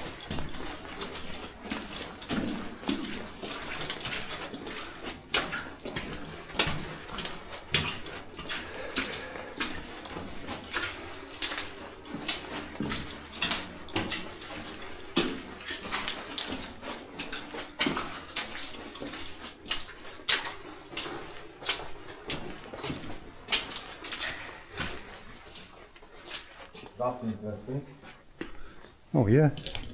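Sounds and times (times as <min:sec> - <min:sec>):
footsteps crunching on loose rock: 0:00.0 - 0:29.0.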